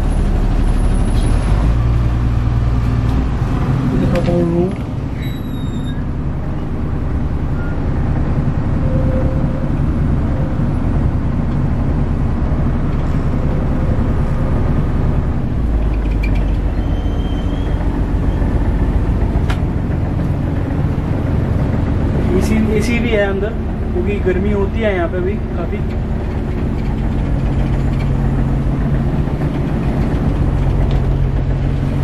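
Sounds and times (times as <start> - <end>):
boat engine low rumble: 0.0 - 32.0.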